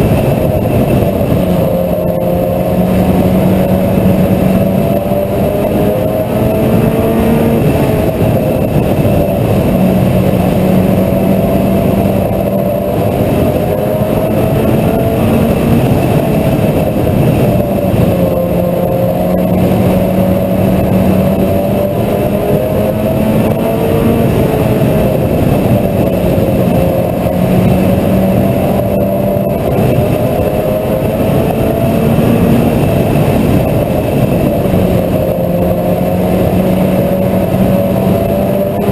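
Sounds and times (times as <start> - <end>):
race car engine running hard: 0.0 - 38.9
steady rush of noise: 0.0 - 38.9.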